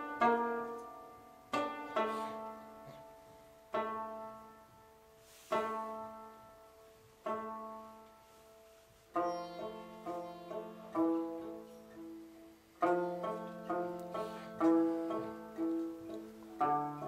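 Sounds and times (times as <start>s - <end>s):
plucked string instrument notes: 0.0s - 17.0s.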